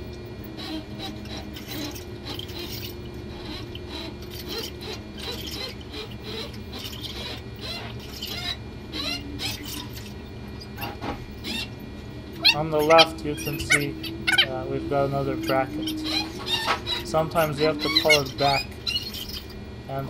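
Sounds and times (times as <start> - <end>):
cable scraping through conduit: 0.0 - 11.7, 12.4 - 19.6
faint squeaks: 0.0 - 20.0.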